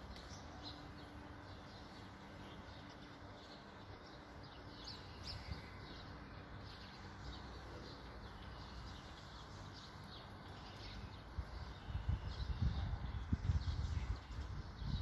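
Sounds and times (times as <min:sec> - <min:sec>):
birds chirping: 0:00.0 - 0:15.0
outdoor background hum: 0:00.0 - 0:15.0.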